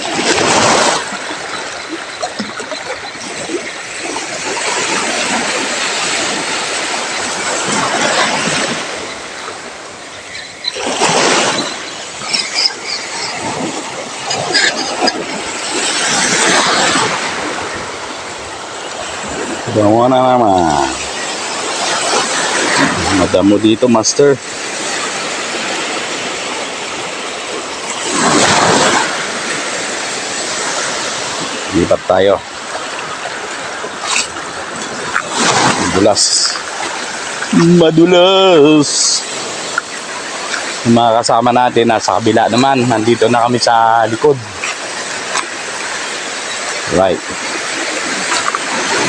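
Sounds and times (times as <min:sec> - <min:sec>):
surf washing over rocks: 0:00.0 - 0:49.0.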